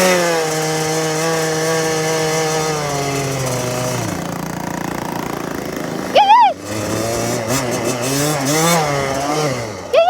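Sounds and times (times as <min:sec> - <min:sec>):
dirt bike engine pulling away: 0:00.0 - 0:10.0.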